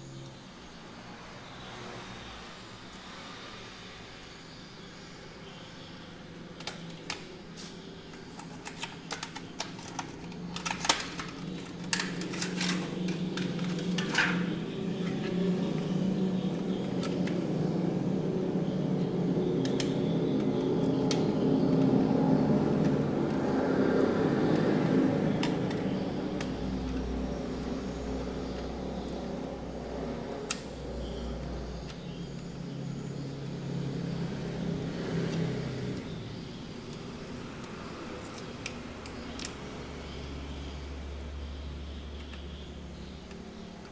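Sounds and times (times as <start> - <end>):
low mechanical hum: 0.0 - 43.9.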